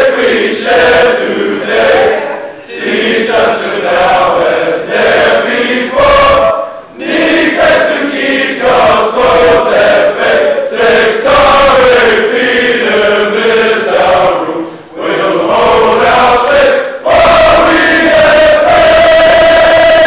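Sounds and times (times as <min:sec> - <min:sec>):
boys choir singing: 0:00.0 - 0:20.0.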